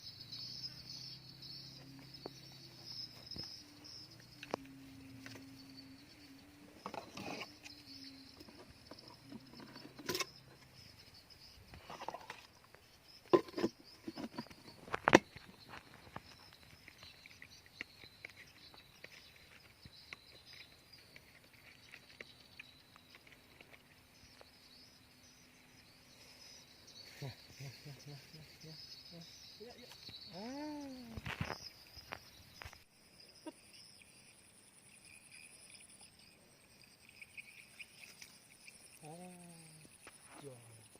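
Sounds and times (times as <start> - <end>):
high-pitched insect chirring: 0.0 - 40.9.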